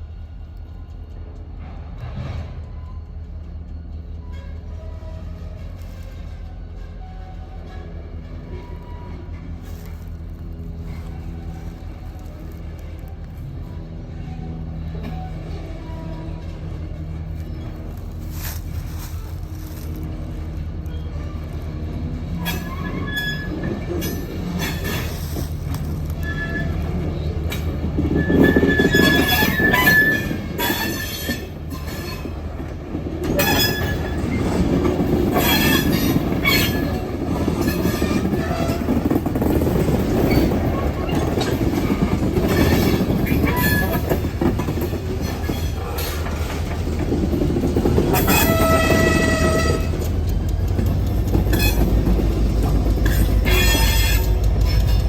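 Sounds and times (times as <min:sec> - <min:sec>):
diesel locomotive drone: 0:00.0 - 0:55.0
rail cars rattling and clanking: 0:00.0 - 0:55.0
train wheels squealing on rails: 0:00.0 - 0:55.0.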